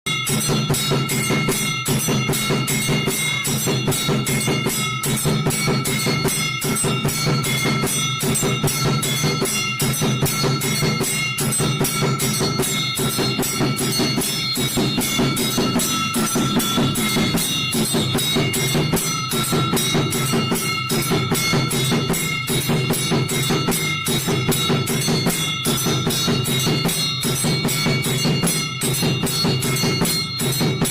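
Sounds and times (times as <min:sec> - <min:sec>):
drums beating: 0:00.1 - 0:30.9
temple bell ringing rapidly: 0:00.1 - 0:30.9.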